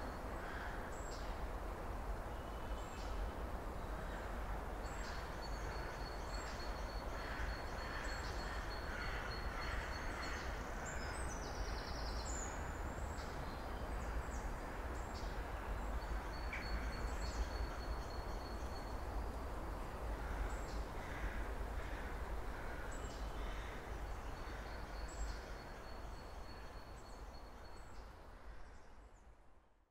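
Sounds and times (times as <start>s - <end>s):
low rumble and hiss: 0.0s - 29.9s.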